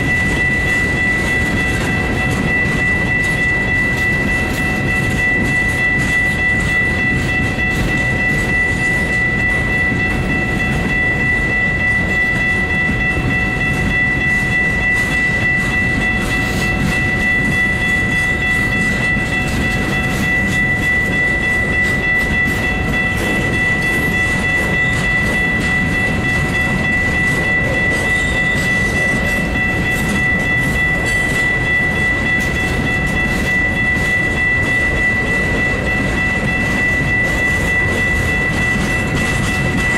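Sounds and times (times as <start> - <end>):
continuous high-pitched tone: 0.0 - 39.9
freight cars rolling on rails: 0.0 - 39.9.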